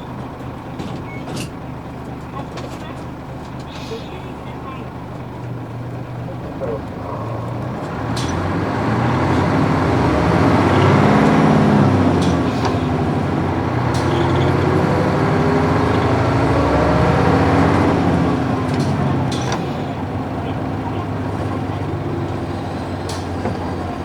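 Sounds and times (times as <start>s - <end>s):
bus diesel engine pulling away: 0.0s - 24.0s.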